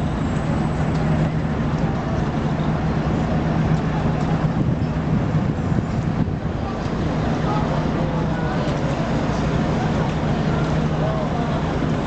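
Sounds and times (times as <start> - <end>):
engine droning: 0.0 - 12.0
outdoor noise: 0.0 - 12.0.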